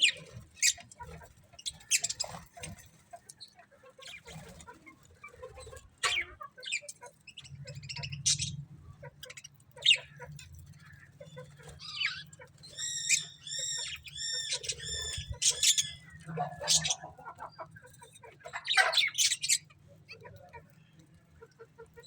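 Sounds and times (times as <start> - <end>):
budgerigars chirping: 0.0 - 2.8, 5.5 - 20.6.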